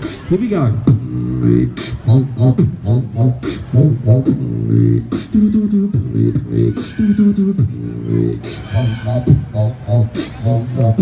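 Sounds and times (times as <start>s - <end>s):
person beatboxing into microphone: 0.0s - 11.0s.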